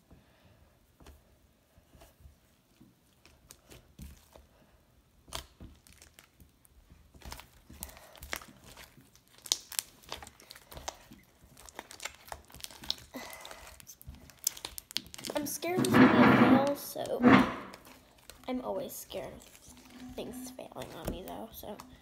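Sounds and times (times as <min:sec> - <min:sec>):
slime squishing and crackling: 0:02.4 - 0:22.0.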